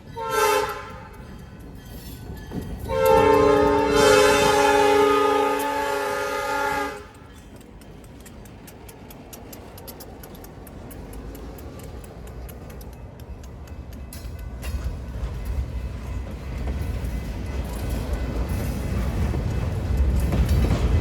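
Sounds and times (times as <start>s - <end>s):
freight train rumble: 0.0s - 21.0s
train wheels clicking on rails: 0.0s - 21.0s.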